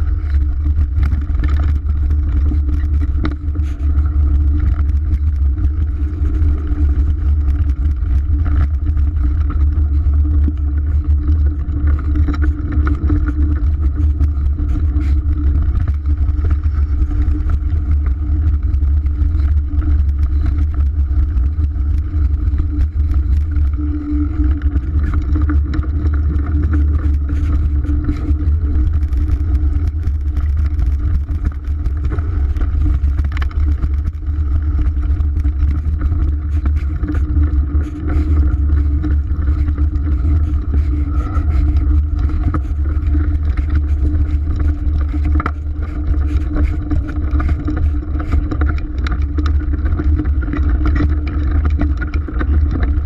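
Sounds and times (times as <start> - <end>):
bike rattling over bumps: 0.0 - 53.0
tyres humming on dirt: 0.0 - 53.0
wind rumble on microphone: 0.0 - 53.0.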